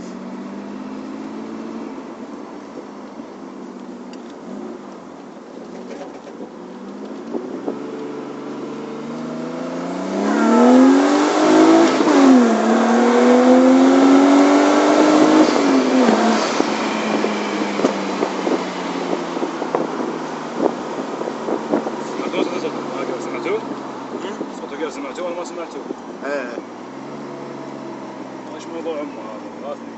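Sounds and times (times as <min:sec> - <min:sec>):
car engine accelerating hard: 0:00.0 - 0:05.0, 0:05.7 - 0:29.9.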